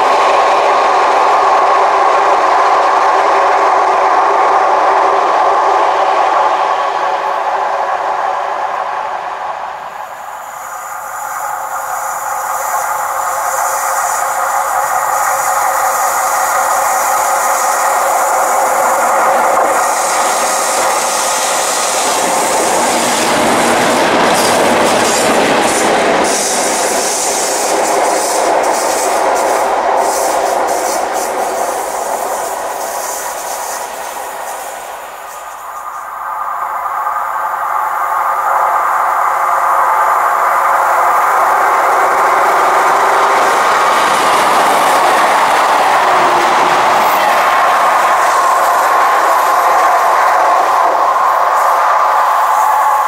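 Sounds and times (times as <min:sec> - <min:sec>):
diesel locomotive engines droning: 0:00.0 - 0:53.0
wheel and rail noise: 0:00.0 - 0:53.0.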